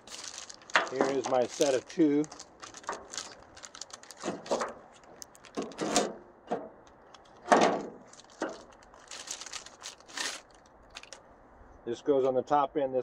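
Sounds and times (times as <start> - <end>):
cables scraping and rattling: 0.0 - 11.2.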